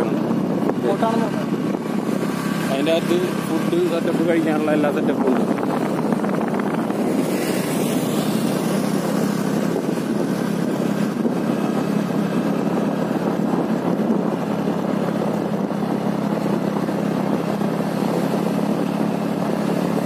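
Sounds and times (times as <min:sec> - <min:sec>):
motorbike engine droning: 0:00.0 - 0:20.0.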